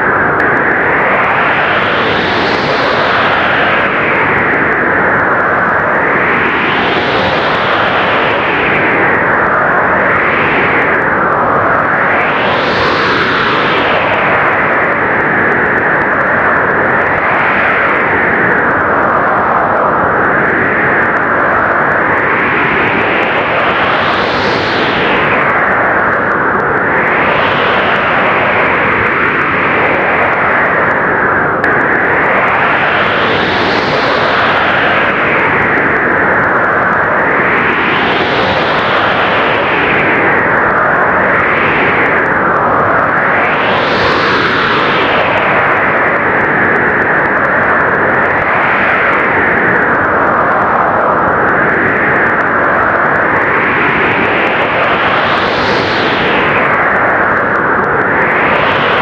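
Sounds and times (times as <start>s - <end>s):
blizzard wind gusting: 0.0s - 59.0s.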